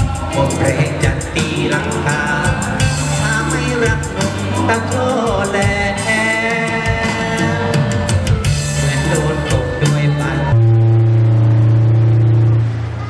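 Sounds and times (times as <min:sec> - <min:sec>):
band drum hits and cymbals: 0:00.0 - 0:10.5
bass notes: 0:00.0 - 0:13.0.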